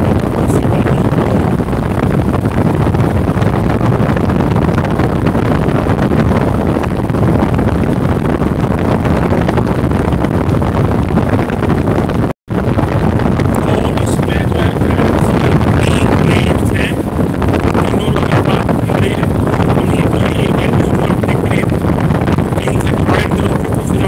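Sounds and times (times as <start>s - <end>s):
fan wind buffeting microphone: 0.0s - 24.0s.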